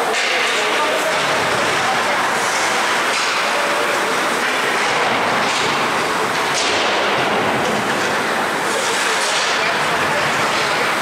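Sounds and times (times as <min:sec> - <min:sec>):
arena noise: 0:00.0 - 0:11.0.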